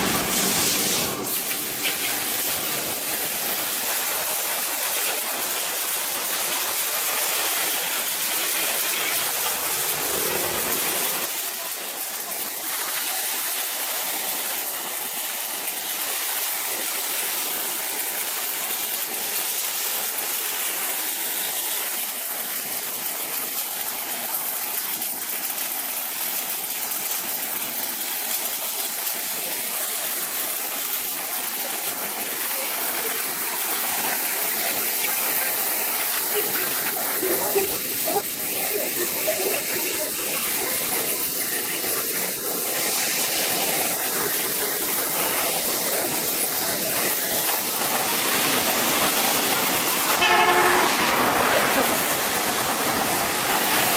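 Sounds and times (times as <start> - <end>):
hissing spray: 0.0 - 22.2, 28.9 - 53.9.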